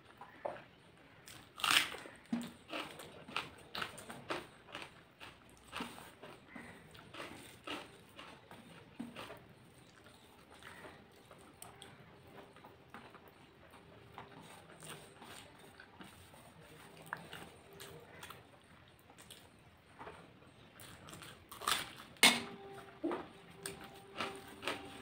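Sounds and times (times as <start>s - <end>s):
chewing: 0.0s - 25.0s.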